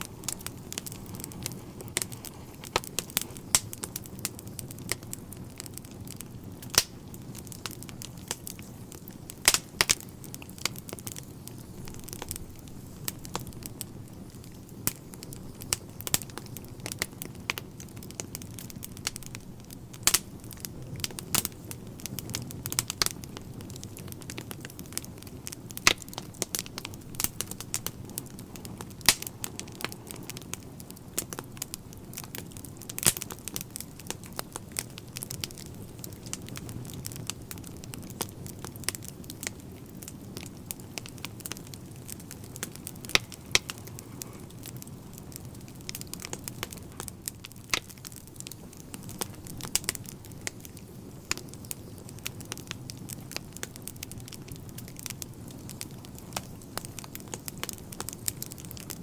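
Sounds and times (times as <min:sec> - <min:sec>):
low rush of flame: 0:00.0 - 0:59.0
wood fire crackling: 0:00.0 - 0:59.0.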